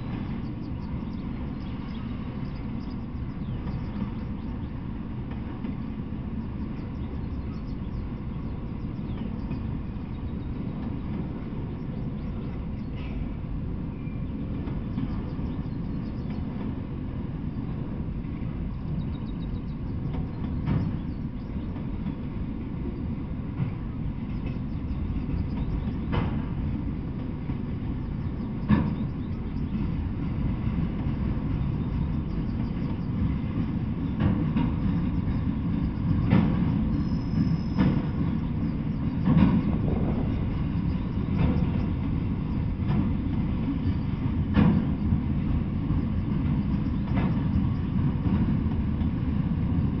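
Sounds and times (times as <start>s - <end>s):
freight train rumble: 0.0s - 50.0s.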